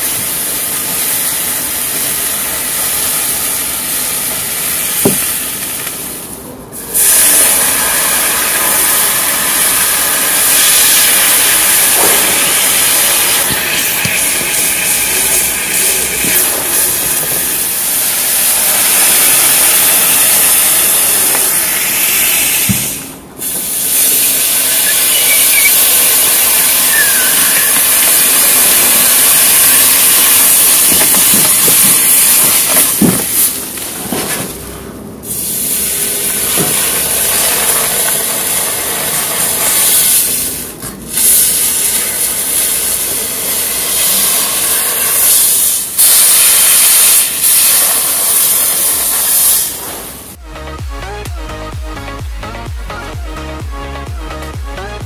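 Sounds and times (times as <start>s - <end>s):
hot knife sizzling and hissing: 0.0s - 6.2s, 6.8s - 33.6s, 35.3s - 50.4s.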